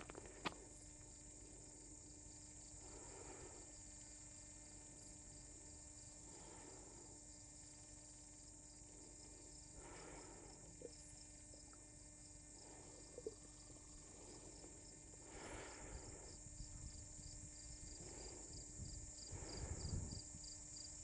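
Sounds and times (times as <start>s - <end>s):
faint insect trill: 0.0s - 21.0s.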